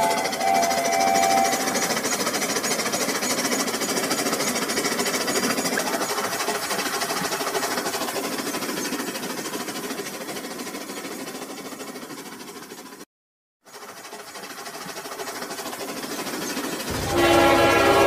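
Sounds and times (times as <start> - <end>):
toy train motor clattering: 0.0 - 13.0, 13.7 - 18.0.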